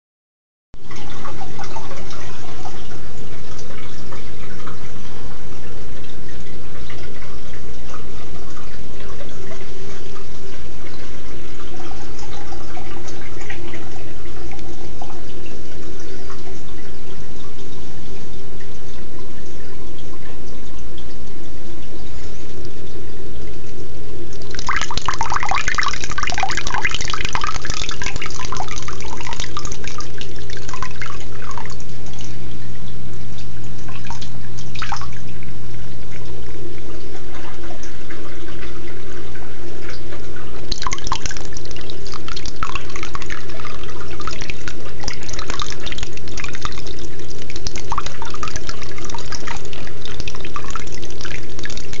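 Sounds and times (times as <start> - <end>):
steady low hum: 0.8 - 52.0
water trickling and splashing: 0.8 - 52.0.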